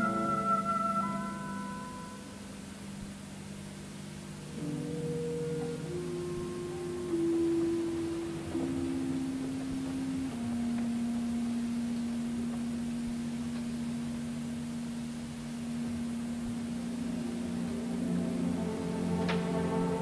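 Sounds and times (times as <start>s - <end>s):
clarinet sustained note: 0.0s - 2.6s, 4.5s - 20.0s
orchestral instruments low notes: 0.0s - 20.0s.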